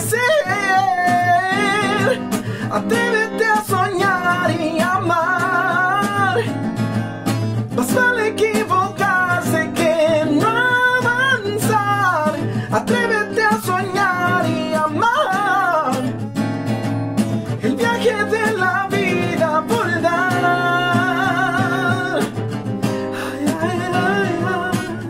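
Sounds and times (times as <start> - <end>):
man singing: 0.0 - 6.9, 7.6 - 16.2, 17.4 - 25.0
strummed acoustic guitar: 0.0 - 25.0.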